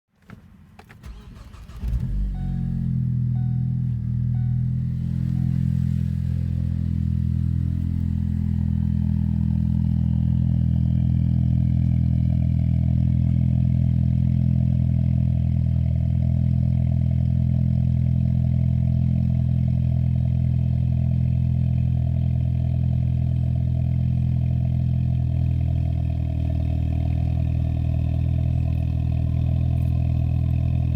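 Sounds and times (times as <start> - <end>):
car engine idling: 1.0 - 30.9.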